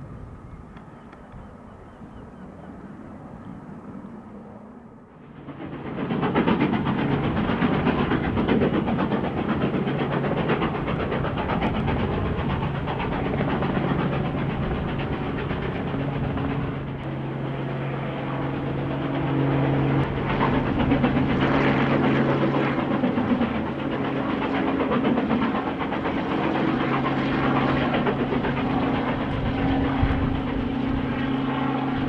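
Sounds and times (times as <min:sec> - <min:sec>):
helicopter drone overhead: 0:00.0 - 0:32.0.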